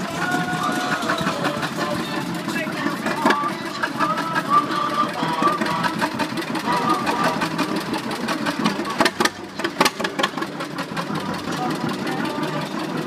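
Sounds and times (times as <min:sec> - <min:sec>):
tractor engine exhaust pops: 0:00.1 - 0:13.0.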